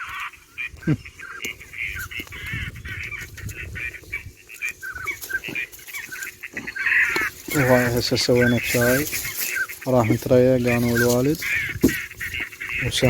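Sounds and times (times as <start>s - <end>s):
waterfowl calling: 0.0s - 13.0s.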